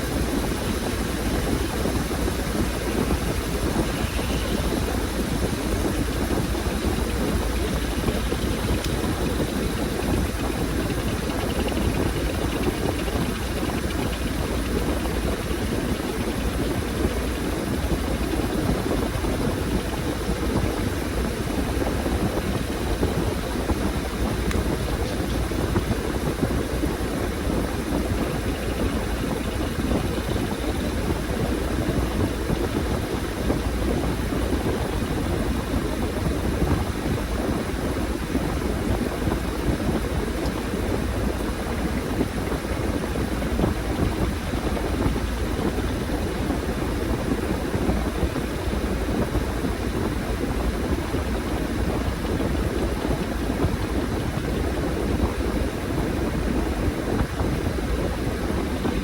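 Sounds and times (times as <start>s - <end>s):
washing machine running: 0.0s - 59.0s.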